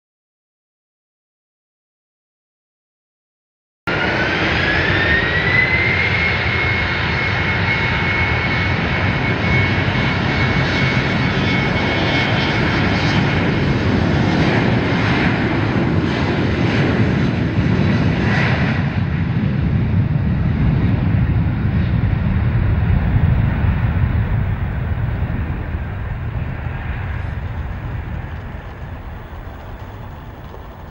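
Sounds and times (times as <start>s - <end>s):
aircraft engine roaring: 3.9s - 30.9s.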